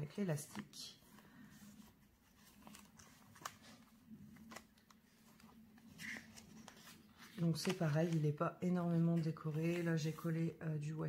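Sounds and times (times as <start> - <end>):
paper pages rustling: 0.3 - 10.4.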